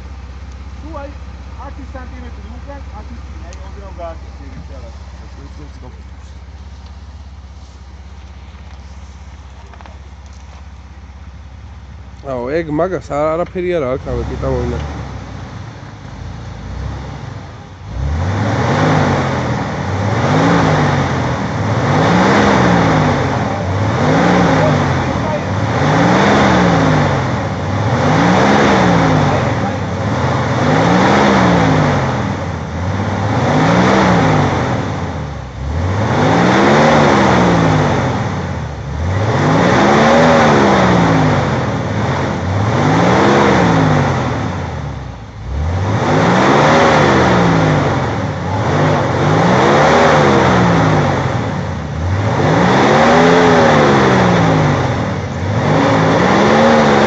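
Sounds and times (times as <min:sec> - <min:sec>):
engine revving: 0:00.0 - 0:57.0.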